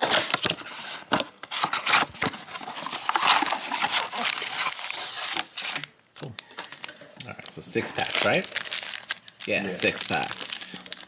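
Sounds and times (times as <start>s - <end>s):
packaging crinkling and tearing: 1.5s - 11.0s.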